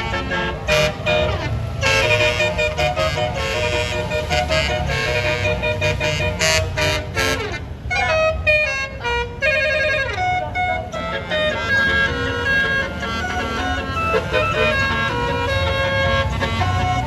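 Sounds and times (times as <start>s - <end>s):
bus engine running: 0.0s - 17.0s
bus melodic horn playing a tune: 0.0s - 17.0s.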